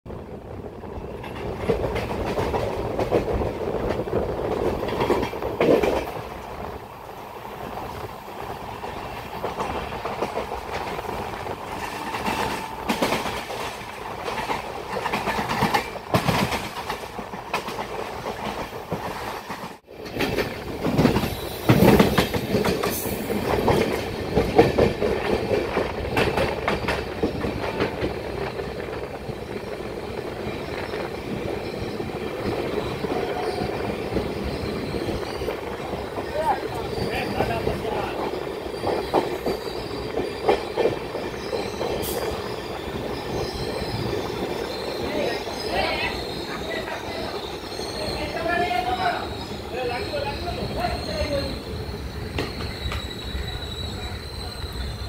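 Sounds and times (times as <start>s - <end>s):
train wheels clattering over rail joints: 0.9s - 54.9s.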